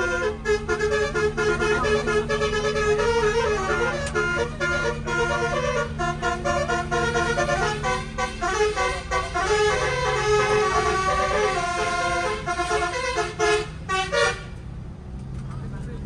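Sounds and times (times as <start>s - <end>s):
air horns playing a melody: 0.0s - 14.5s
bus engine humming: 0.0s - 16.0s.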